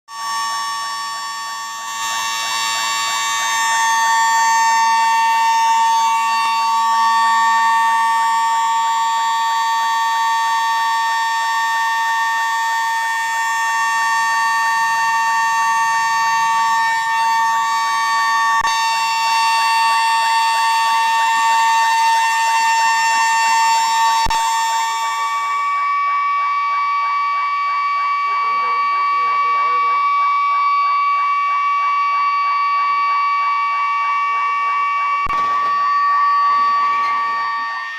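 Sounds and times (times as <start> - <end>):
warbling alarm siren: 0.1 - 37.9.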